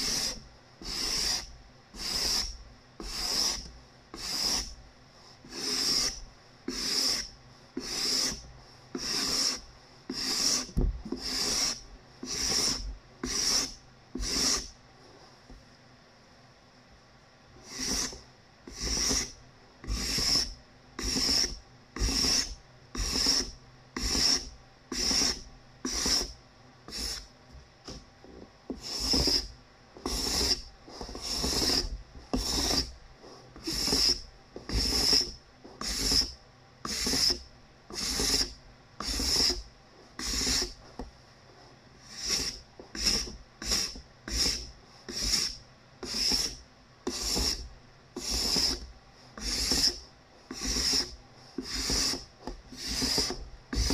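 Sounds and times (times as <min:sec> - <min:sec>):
card scraper rasping on wood: 0:00.0 - 0:04.8, 0:05.4 - 0:14.7, 0:17.6 - 0:27.3, 0:28.7 - 0:39.6, 0:40.2 - 0:40.8, 0:42.0 - 0:53.9.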